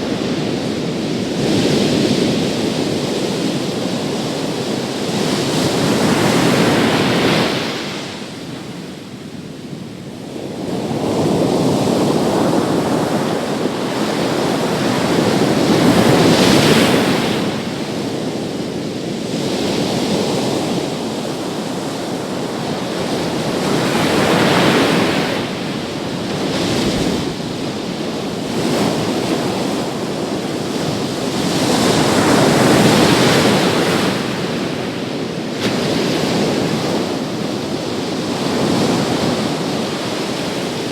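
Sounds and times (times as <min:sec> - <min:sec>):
sea waves breaking on a beach: 0:00.0 - 0:40.9.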